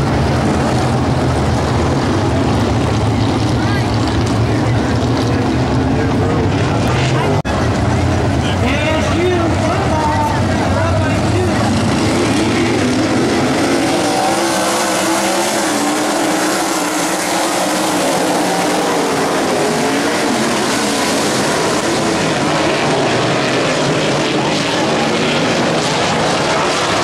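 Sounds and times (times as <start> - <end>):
racing car engines: 0.0 - 27.0.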